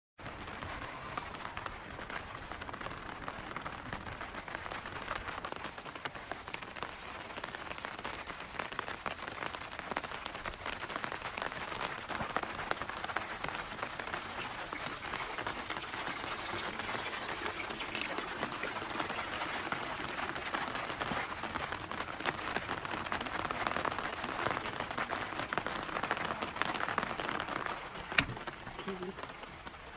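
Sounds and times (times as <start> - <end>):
steady rain falling: 0.2 - 29.9.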